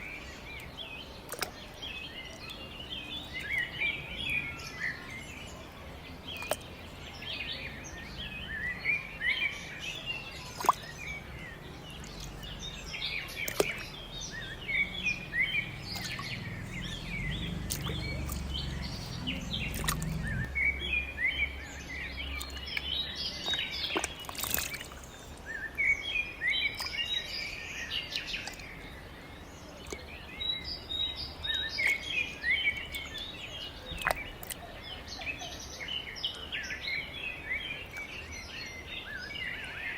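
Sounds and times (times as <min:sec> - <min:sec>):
low steady hum: 0:00.0 - 0:35.6
small birds chirping: 0:00.0 - 0:39.9.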